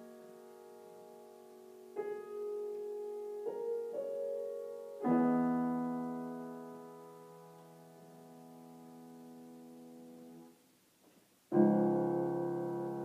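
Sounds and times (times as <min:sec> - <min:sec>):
grand piano playing slowly: 0:00.0 - 0:10.6, 0:11.5 - 0:13.0.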